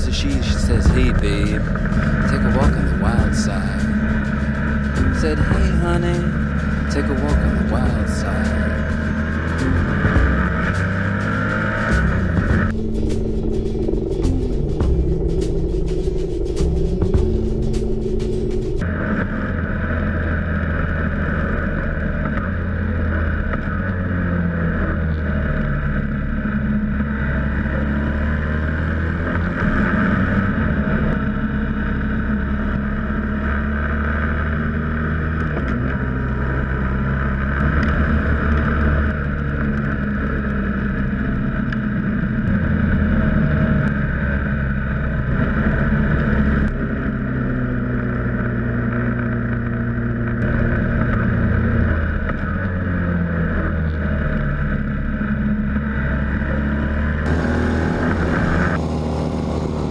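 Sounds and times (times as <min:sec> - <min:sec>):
racing engine running hard: 0:00.0 - 0:59.9.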